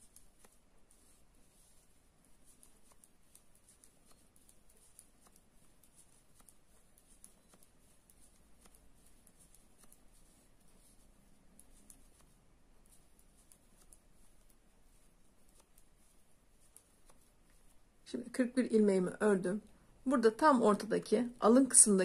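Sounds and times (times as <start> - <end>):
knitting needles clicking: 0.0 - 17.9
low steady hiss: 0.0 - 22.0.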